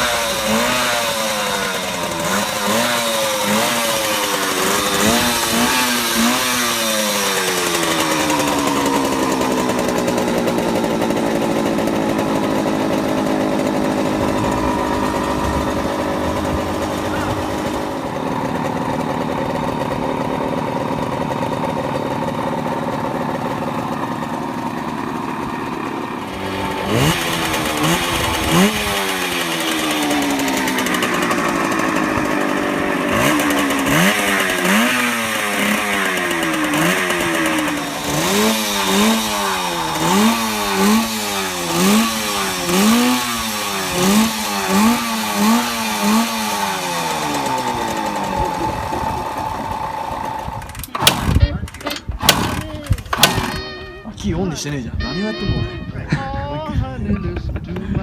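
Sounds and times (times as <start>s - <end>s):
motorcycle engine idling: 0.0s - 58.0s
motorcycle throttle blips: 0.0s - 58.0s.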